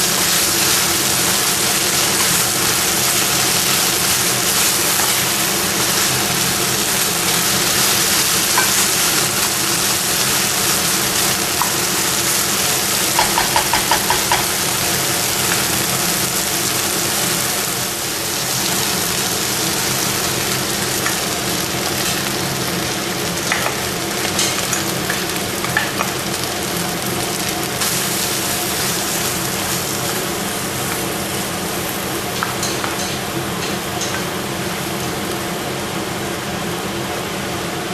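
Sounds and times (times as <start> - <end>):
chicken sizzling in a frying pan: 0.0 - 37.9.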